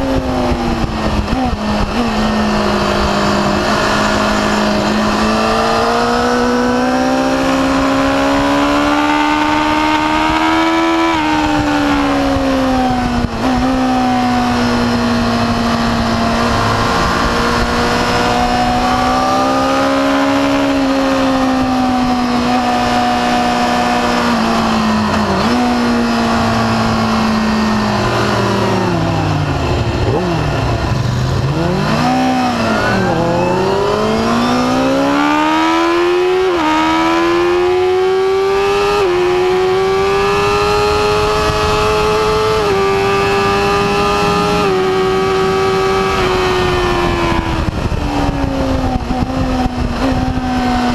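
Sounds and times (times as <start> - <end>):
motorcycle engine revving high: 0.0 - 50.9.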